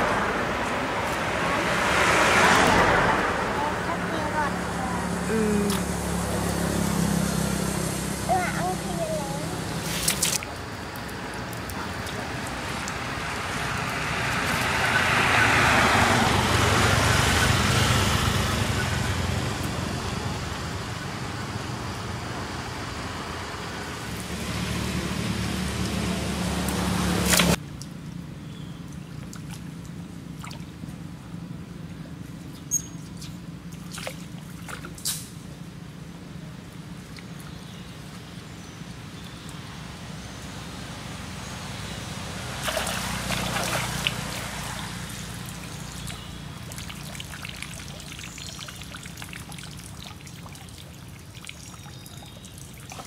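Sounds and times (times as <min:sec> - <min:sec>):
road vehicle passing: 0:00.0 - 0:32.5, 0:33.4 - 0:53.0.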